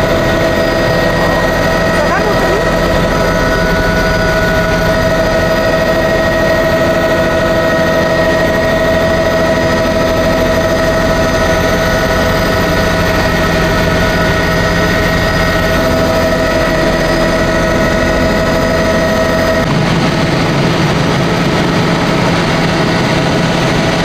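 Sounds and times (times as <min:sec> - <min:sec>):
constant whining tone: 0:00.0 - 0:24.0
helicopter engine and rotor noise: 0:00.0 - 0:24.0.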